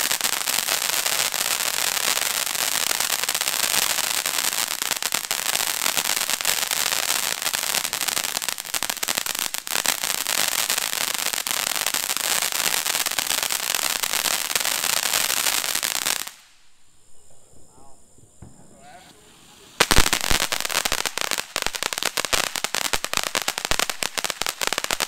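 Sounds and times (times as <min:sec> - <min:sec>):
firework fountain hissing and crackling: 0:00.0 - 0:17.2, 0:17.8 - 0:25.0.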